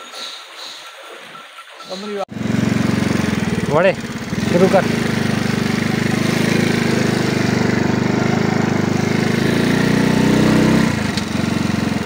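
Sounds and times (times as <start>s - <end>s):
motorcycle engine running: 2.3s - 12.0s.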